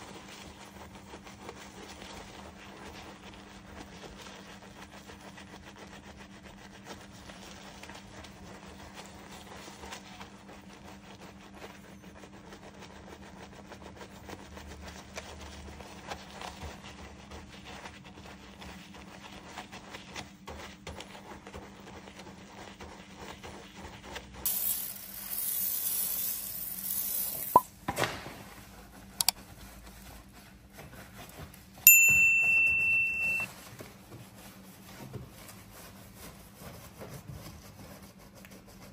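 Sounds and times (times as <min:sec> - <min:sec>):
brush scrubbing soapy paint: 0:00.0 - 0:27.7, 0:28.4 - 0:38.9.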